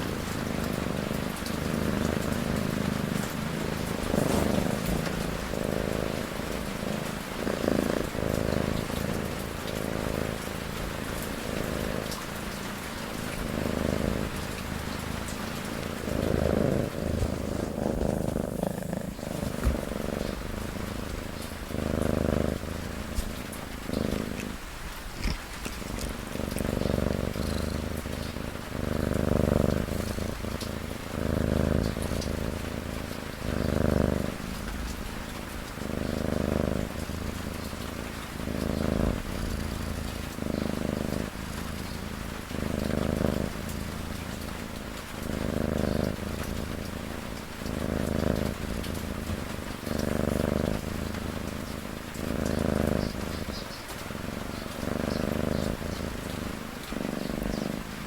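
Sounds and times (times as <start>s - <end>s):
cat purring snores: 0.0s - 58.0s
rain hiss: 0.0s - 58.0s.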